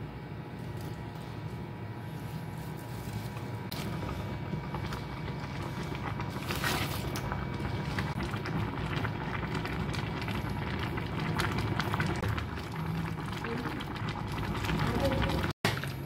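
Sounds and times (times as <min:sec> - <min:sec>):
stew boiling and bubbling: 0:00.0 - 0:16.0.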